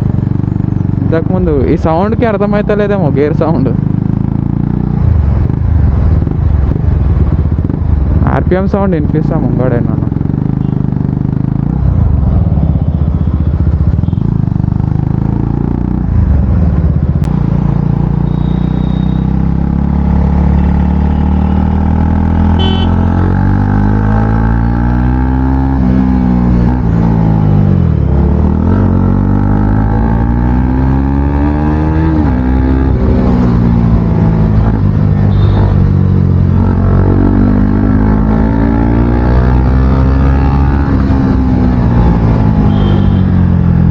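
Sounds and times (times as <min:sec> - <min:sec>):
loud motorcycle engine revving: 0:00.0 - 0:08.2, 0:09.4 - 0:43.9.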